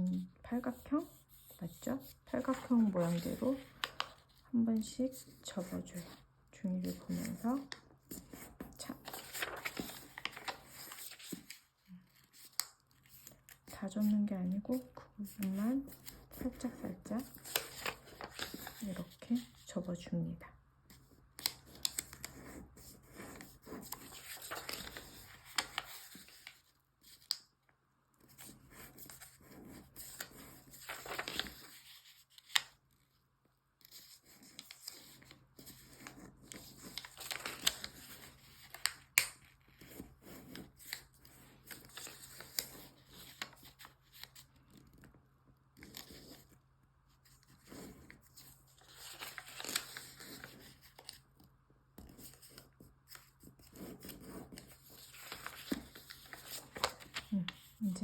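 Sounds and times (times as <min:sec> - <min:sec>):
paper rustling and crinkling: 0:00.8 - 0:06.2, 0:06.8 - 0:14.0, 0:15.2 - 0:19.7, 0:20.9 - 0:27.5, 0:28.2 - 0:33.1, 0:33.8 - 0:45.2, 0:45.8 - 0:58.0.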